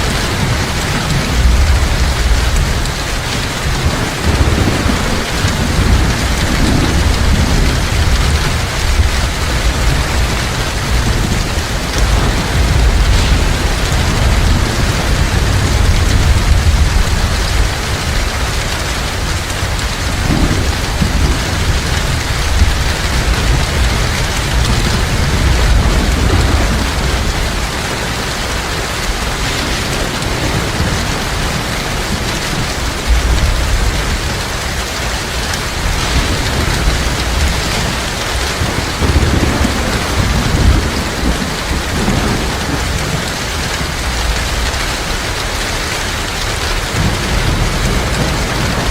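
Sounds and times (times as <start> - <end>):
heavy rain pouring: 0.0 - 48.9
thunder rumbling: 0.0 - 48.9.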